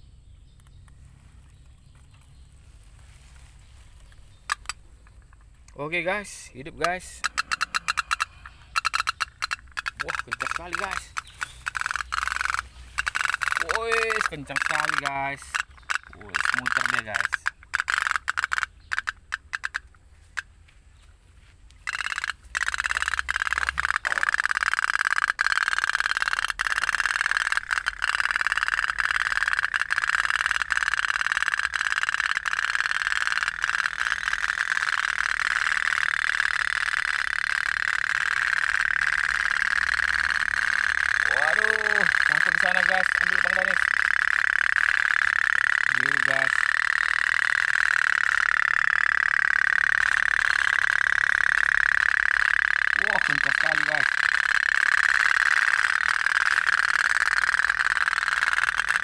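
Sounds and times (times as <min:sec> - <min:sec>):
toy steam boat putt-putt: 0:04.4 - 0:20.5, 0:21.7 - 0:59.0.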